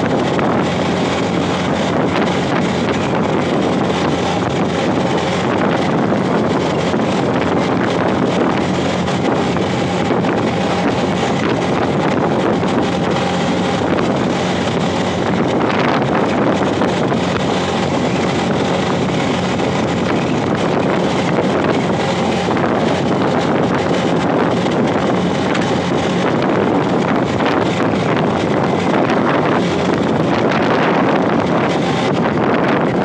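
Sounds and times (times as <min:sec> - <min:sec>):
motorcycle engine hum: 0:00.0 - 0:33.0
road noise: 0:00.0 - 0:33.0
wind rushing over microphone: 0:00.0 - 0:33.0.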